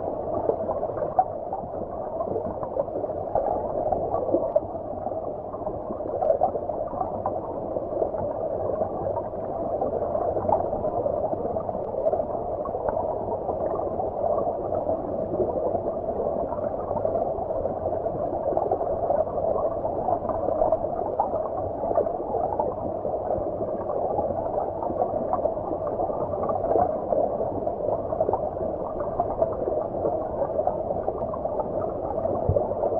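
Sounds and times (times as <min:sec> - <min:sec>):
muffled underwater stream gurgling: 0:00.0 - 0:32.9.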